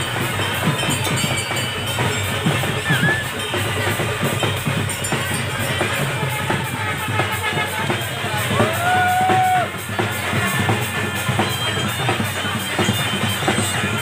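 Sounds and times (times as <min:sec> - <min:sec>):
drums beaten fast: 0:00.0 - 0:14.0
noisy crowd: 0:00.0 - 0:14.0.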